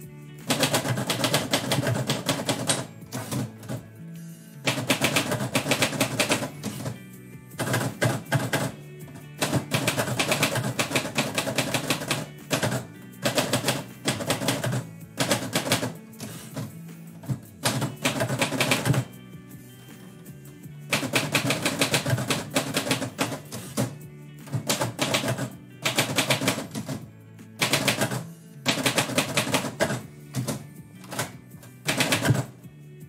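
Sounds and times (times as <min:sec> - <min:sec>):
background music: 0:00.0 - 0:33.0
typewriter keystrokes clattering: 0:00.4 - 0:03.8, 0:04.7 - 0:07.0, 0:07.6 - 0:19.1, 0:20.9 - 0:23.9, 0:24.5 - 0:27.0, 0:27.6 - 0:32.6.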